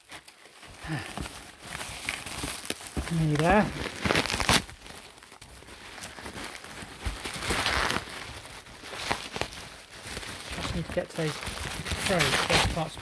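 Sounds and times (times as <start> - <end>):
bubble wrap crackles: 0.0 - 13.0
plastic packaging rustling: 0.0 - 13.0.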